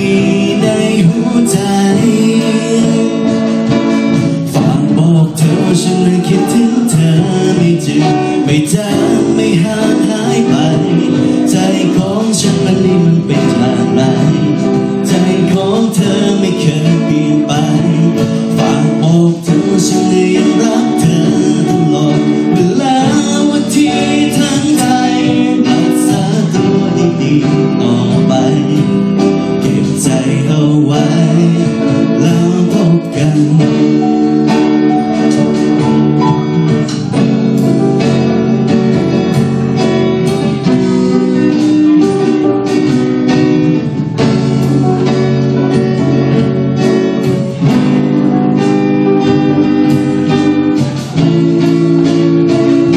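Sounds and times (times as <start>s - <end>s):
drum kit: 0.0s - 52.9s
guitar: 0.0s - 52.9s
person singing: 0.0s - 52.9s.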